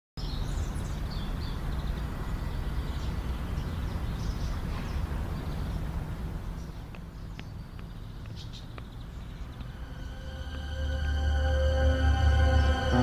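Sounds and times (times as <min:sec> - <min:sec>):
small birds chirping: 0:00.2 - 0:10.6
steady low rumble: 0:00.5 - 0:13.0.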